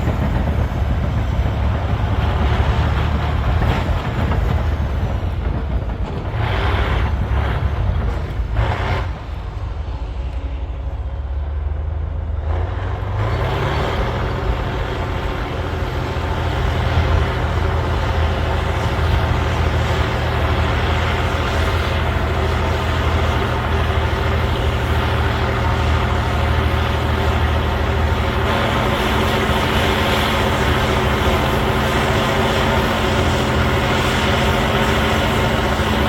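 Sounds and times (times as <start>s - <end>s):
bulldozer diesel engine revving: 0.0s - 36.0s.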